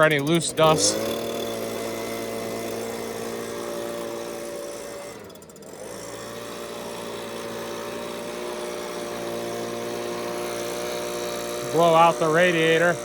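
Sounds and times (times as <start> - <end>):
leaf blower engine running: 0.0 - 13.0.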